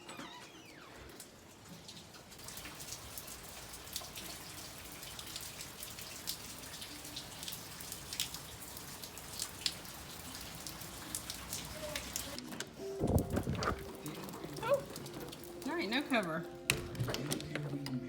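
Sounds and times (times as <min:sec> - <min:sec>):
rain drops ticking: 0:01.1 - 0:18.0.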